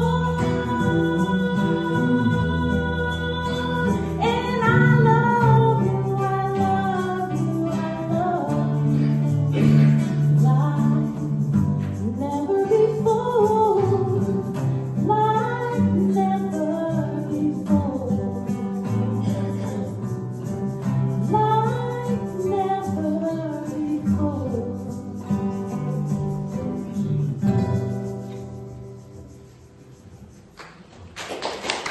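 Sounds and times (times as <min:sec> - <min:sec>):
person singing: 0:00.0 - 0:20.4, 0:21.2 - 0:27.0
guitar: 0:00.0 - 0:31.9.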